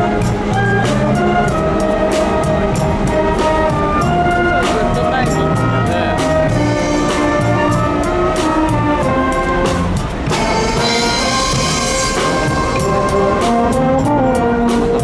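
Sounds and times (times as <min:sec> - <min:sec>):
brass band playing: 0:00.0 - 0:15.0
drum and cymbal strikes: 0:00.0 - 0:15.0.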